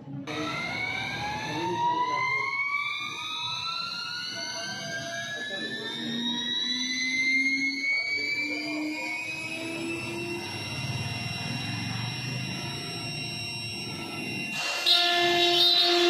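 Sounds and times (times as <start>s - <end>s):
router spindle whine rising: 0.2s - 16.0s.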